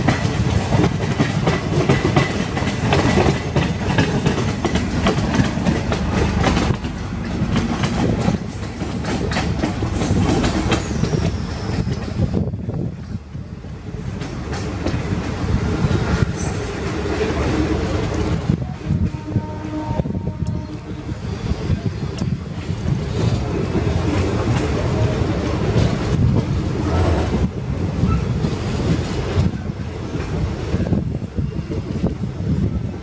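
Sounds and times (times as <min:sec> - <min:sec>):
train wheels clattering over rail joints: 0:00.0 - 0:19.2, 0:21.5 - 0:31.1.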